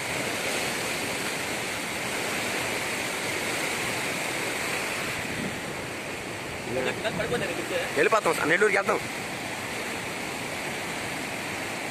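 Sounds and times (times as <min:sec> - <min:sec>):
river floodwater rushing: 0:00.0 - 0:11.9.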